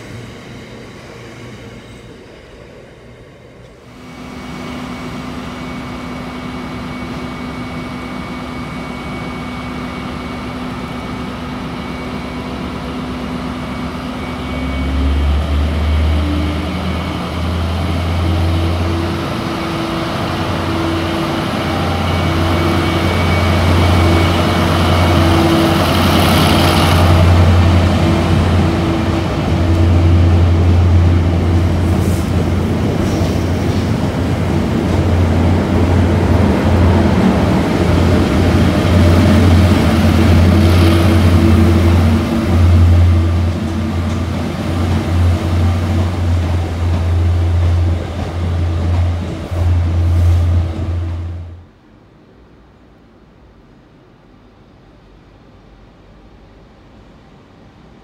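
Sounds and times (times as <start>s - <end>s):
train wheels rumbling on rails: 0.0s - 51.6s
locomotive engine drone: 0.0s - 51.8s
passing freight train: 0.0s - 58.0s.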